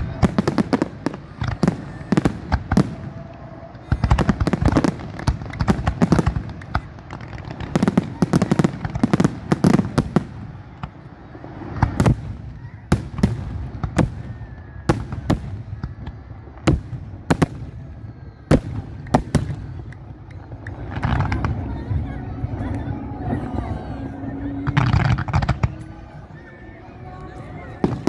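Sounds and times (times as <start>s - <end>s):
fireworks booms: 0.0s - 22.8s
fireworks bangs and crackle: 0.0s - 26.5s, 27.1s - 28.0s.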